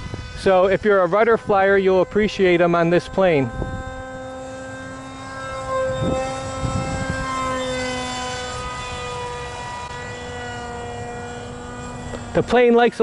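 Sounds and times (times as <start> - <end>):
electric motor propeller whine: 0.0 - 13.0.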